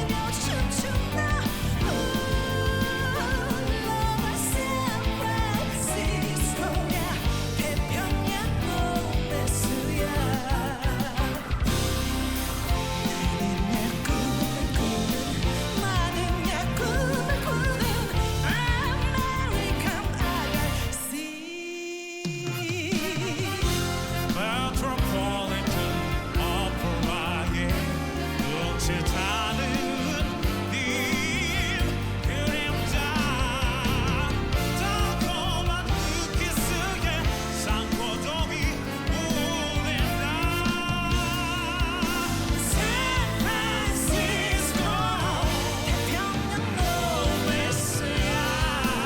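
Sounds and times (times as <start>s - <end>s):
band playing song with vibrato melody: 0.0s - 21.2s, 22.6s - 49.0s.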